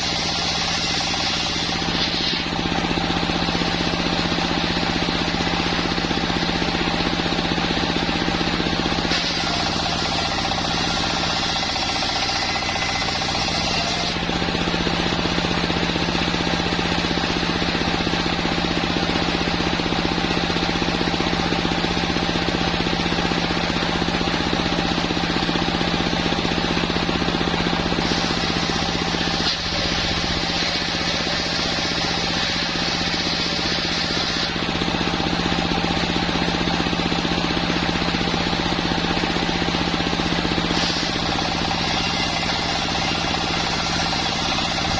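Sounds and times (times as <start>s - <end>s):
sawmill machine drone: 0.0s - 44.9s.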